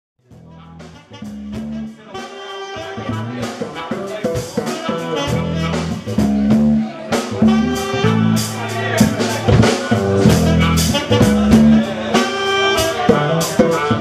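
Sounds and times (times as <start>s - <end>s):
live band playing: 0.2s - 14.0s
saxophone: 0.2s - 14.0s.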